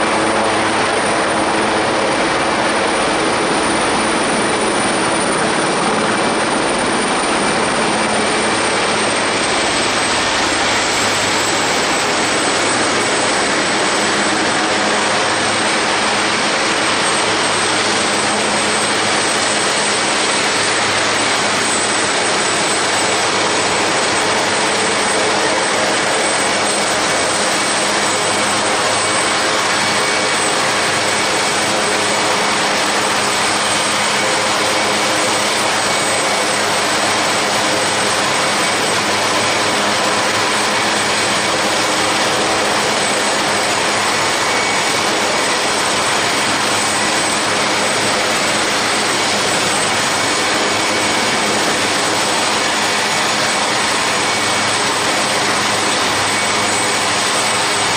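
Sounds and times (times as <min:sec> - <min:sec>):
jet engine roar: 0:00.0 - 0:57.9.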